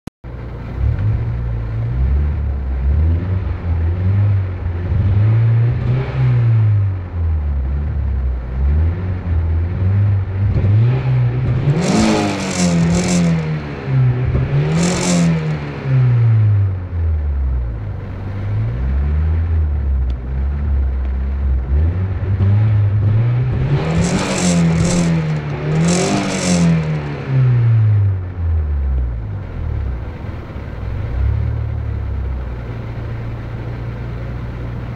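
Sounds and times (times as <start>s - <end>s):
turbocharged car engine from inside: 0.2s - 34.9s.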